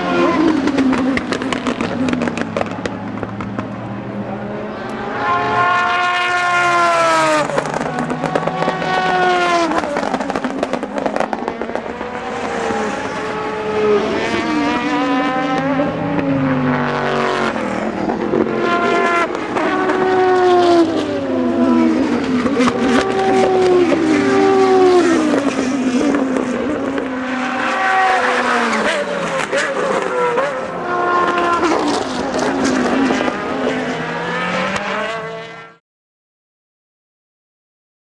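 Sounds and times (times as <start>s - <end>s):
race cars passing at speed: 0.0s - 35.8s.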